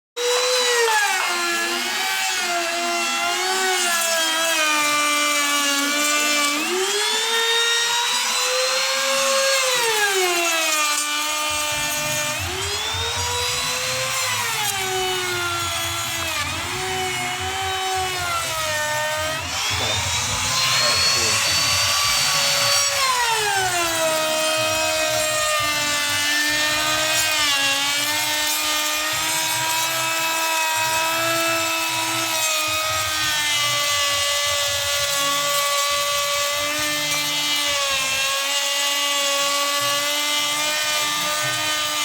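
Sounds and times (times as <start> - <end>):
power tool motor whining: 0.2 - 42.0.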